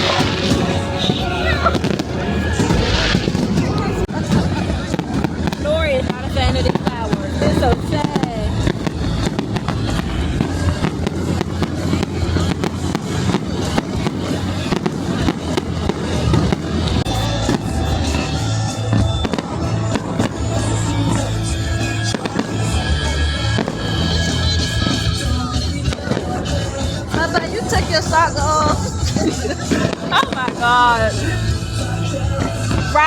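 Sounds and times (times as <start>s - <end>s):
fireworks popping and crackling: 0.0s - 33.0s
music playing: 0.0s - 33.0s.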